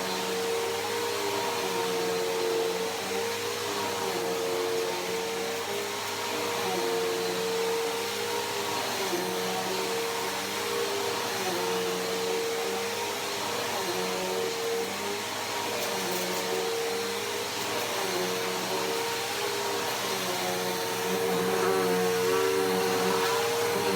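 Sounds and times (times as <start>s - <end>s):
upright vacuum running: 0.0s - 23.9s.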